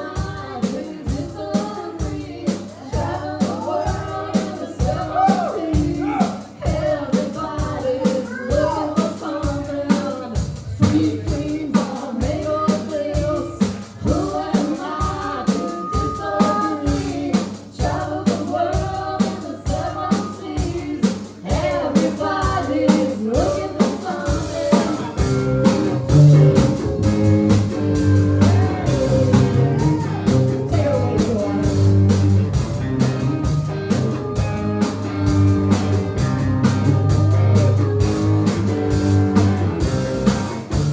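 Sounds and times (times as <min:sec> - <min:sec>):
live blues-rock band: 0:00.0 - 0:40.9
steady drum beat: 0:00.0 - 0:40.9.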